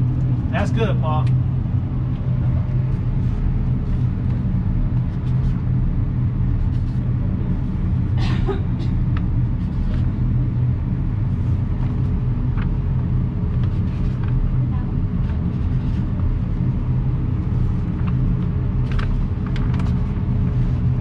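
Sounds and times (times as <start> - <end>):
ventilation droning hum: 0.0 - 21.0.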